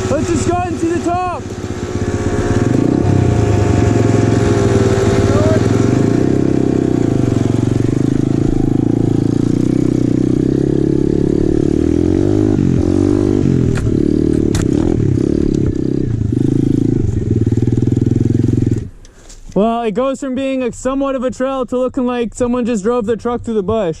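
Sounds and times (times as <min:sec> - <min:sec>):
pit bike engine under load: 0:00.0 - 0:19.6.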